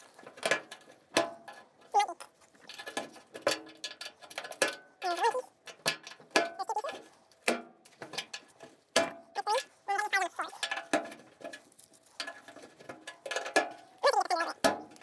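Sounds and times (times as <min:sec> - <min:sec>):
metal clinks and knocks: 0:00.0 - 0:09.8, 0:10.5 - 0:15.0.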